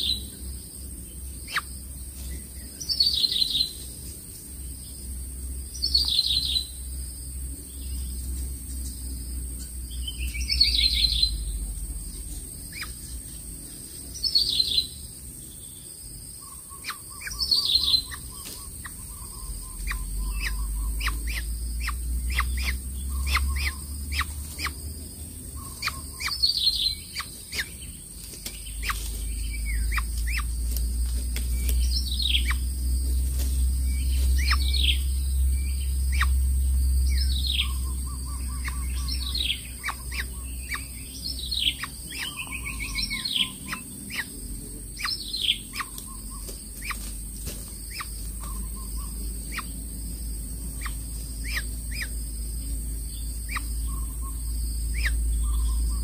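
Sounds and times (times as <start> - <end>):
low rumble: 0.0 - 16.1, 17.4 - 56.0.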